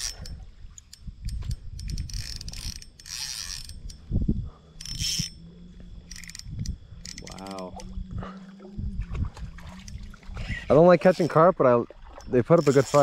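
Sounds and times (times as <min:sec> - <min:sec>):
fishing reel drag buzzing: 0:00.0 - 0:08.1, 0:09.6 - 0:13.0.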